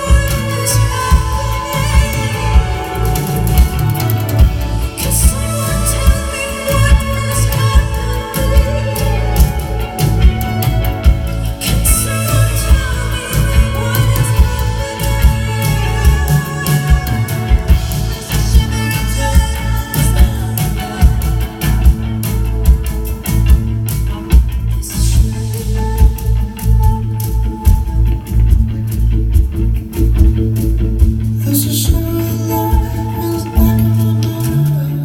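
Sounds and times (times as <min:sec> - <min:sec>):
live band instrumental: 0:00.0 - 0:35.0.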